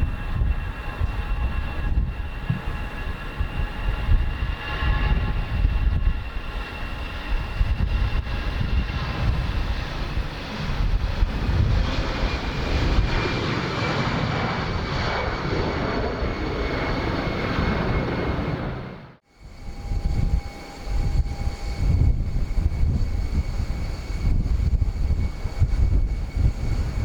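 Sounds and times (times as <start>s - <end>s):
airliner engines rumbling: 0.0s - 27.0s
high turbine whine: 0.0s - 27.0s.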